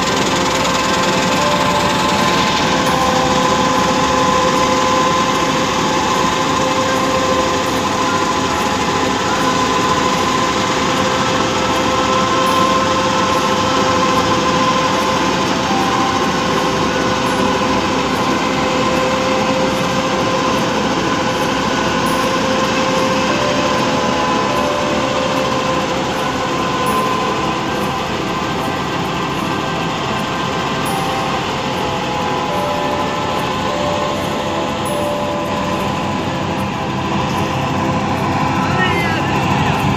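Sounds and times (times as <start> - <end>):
combine harvester running: 0.0 - 39.9
steady high whine: 0.0 - 39.9.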